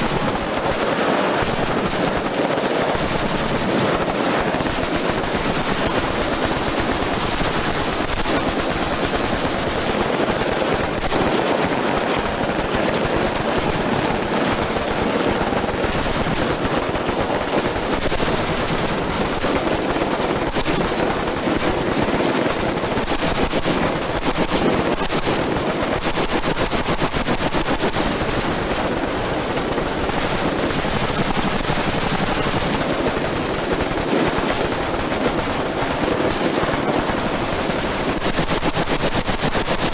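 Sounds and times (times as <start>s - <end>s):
machine gun fire: 0.0s - 39.9s.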